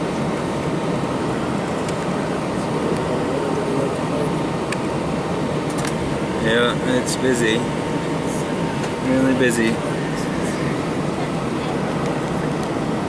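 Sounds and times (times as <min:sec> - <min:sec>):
cabin air-conditioning hiss: 0:00.0 - 0:13.0
faint passenger voices: 0:00.0 - 0:13.0
jet engine hum: 0:00.0 - 0:13.0.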